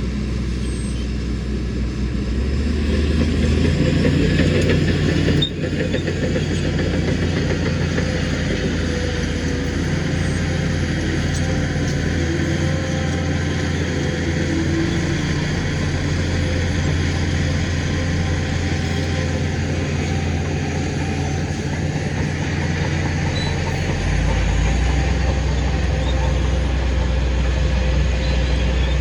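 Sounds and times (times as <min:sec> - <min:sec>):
heavy diesel machinery engine: 0:00.0 - 0:29.0.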